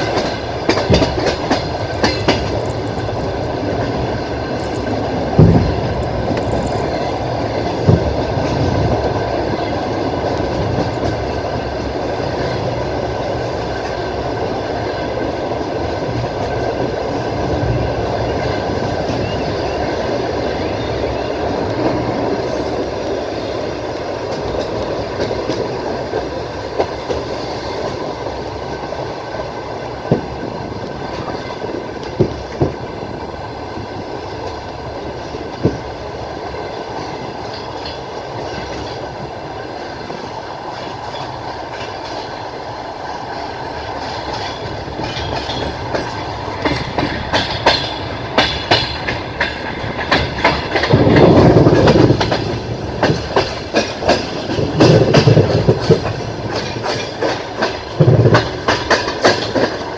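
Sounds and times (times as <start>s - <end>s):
train wheels rumbling on track: 0.0s - 59.9s
wheels clicking over rail joints: 0.0s - 59.9s.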